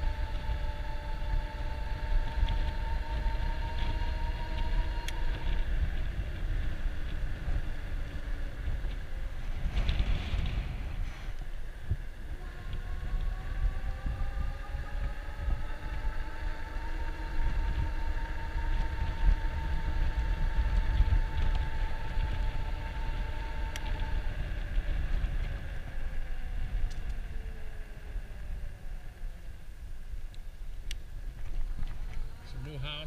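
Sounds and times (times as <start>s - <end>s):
electric bike motor whining: 0.0s - 33.0s
wind rumble on microphone: 0.0s - 33.0s.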